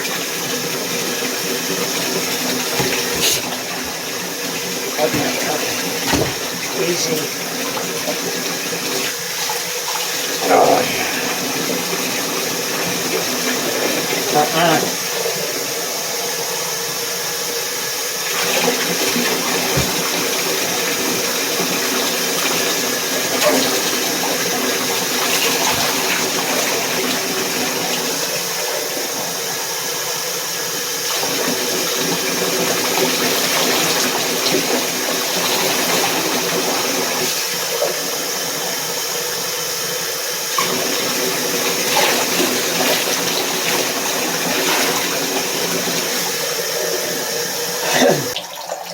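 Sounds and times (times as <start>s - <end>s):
running water spraying: 0.0s - 48.9s.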